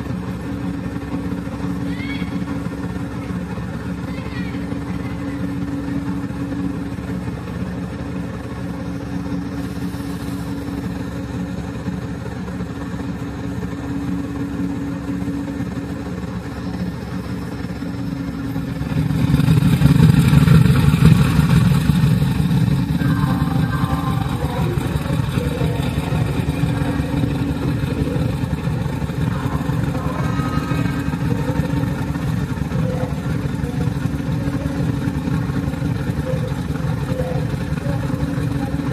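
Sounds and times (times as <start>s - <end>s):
diesel locomotive engine idling: 0.0s - 38.9s.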